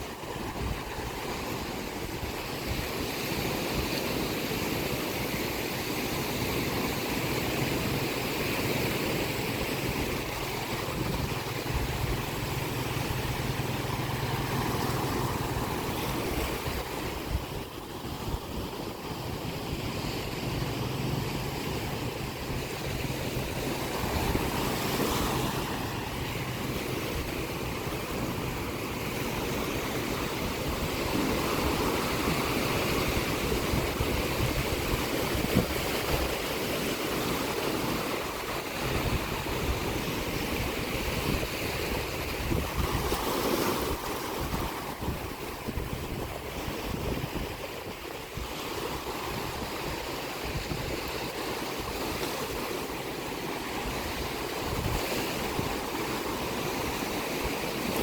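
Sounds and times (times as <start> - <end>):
sea waves breaking on shore: 0.0 - 58.0
wind: 0.0 - 58.0.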